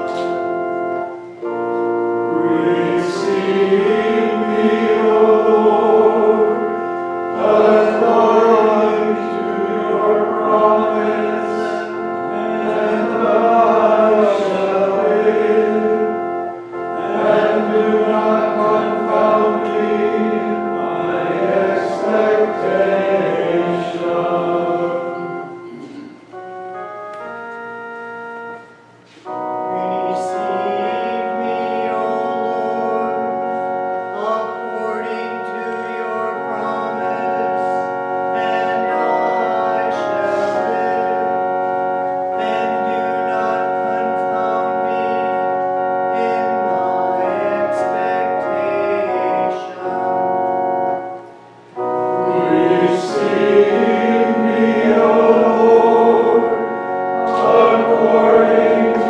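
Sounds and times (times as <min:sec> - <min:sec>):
male choir singing a hymn: 0:00.0 - 0:27.9, 0:29.2 - 0:51.2, 0:51.8 - 0:59.0.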